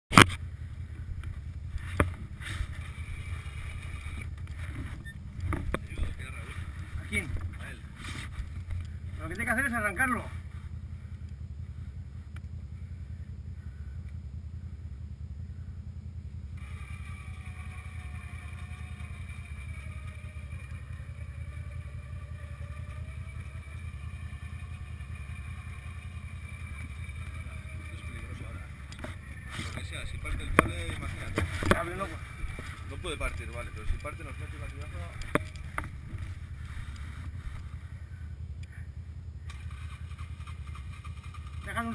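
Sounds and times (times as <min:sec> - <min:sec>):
quad engine rumbling: 0:00.1 - 0:41.9
electric winch whining: 0:00.8 - 0:12.0, 0:16.4 - 0:41.9.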